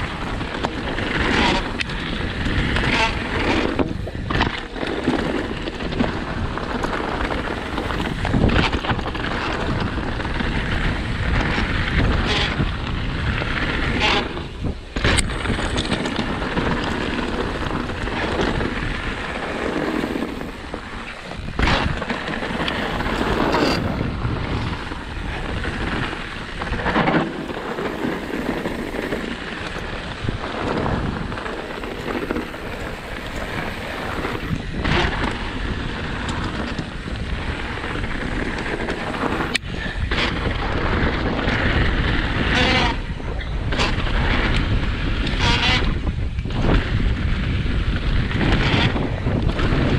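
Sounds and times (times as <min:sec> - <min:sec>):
bike rattling: 0:00.0 - 0:49.9
bike tyres rumbling on stones: 0:00.0 - 0:49.9.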